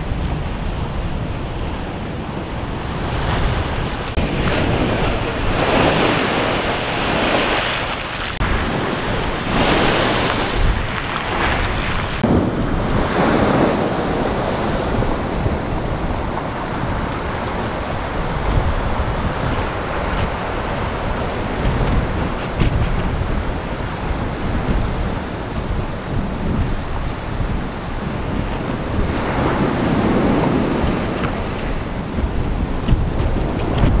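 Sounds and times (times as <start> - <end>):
surf crashing against seawall: 0.0 - 34.0
wind buffeting microphone: 0.0 - 34.0.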